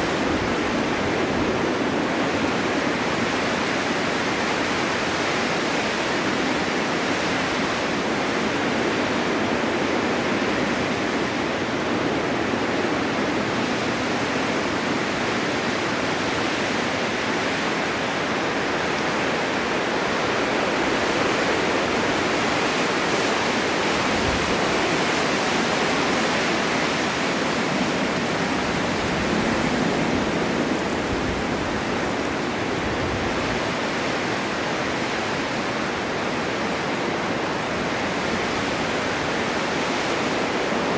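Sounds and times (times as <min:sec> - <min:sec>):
strong wind blowing: 0:00.0 - 0:40.9.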